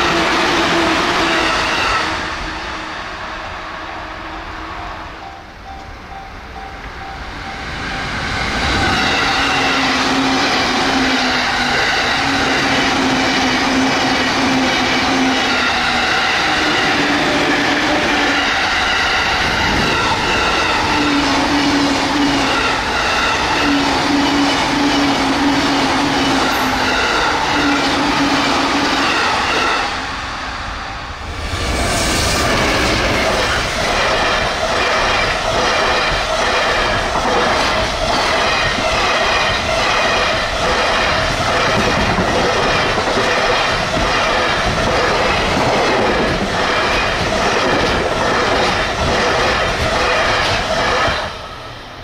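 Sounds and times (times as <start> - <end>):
train wheels rushing on rails: 0.0 - 52.0.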